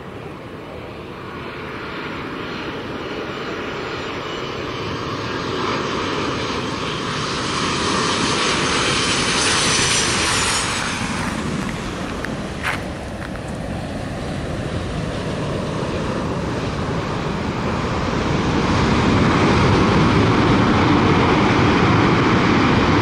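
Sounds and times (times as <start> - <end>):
jet engines on approach: 0.0 - 23.0.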